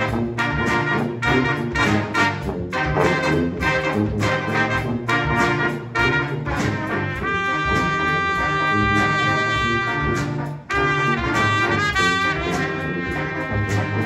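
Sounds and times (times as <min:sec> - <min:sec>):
brass band playing chords: 0:00.0 - 0:14.0.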